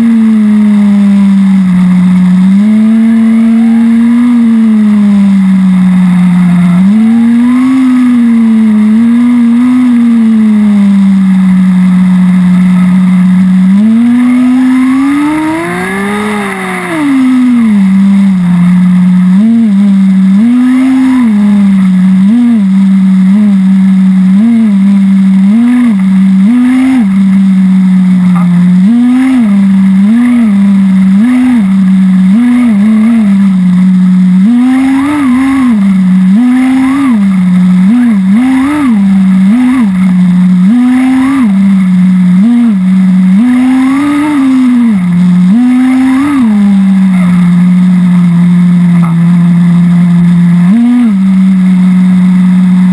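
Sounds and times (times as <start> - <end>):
nitro engine revving: 0.0 - 52.9.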